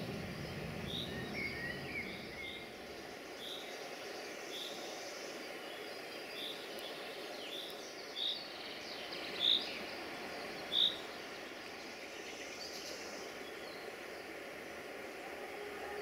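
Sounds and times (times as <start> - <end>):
faint bird chirps: 0.4 - 14.8.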